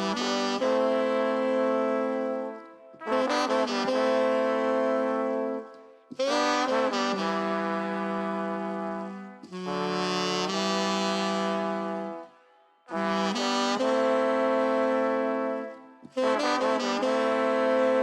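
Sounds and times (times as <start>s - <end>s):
saxophone-led horn section playing ska: 0.0s - 12.3s, 12.9s - 18.0s.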